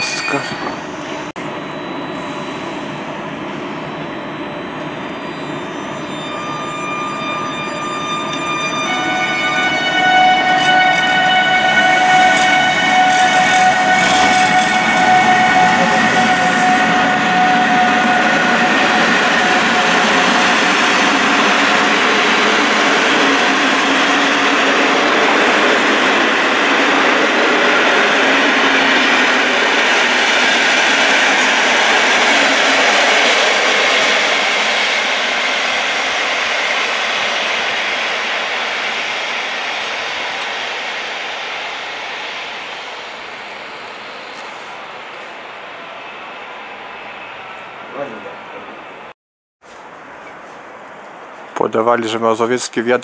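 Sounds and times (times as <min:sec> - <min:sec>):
passenger train wheels on rails: 0:00.0 - 0:49.1
high whine tones: 0:00.0 - 0:49.2.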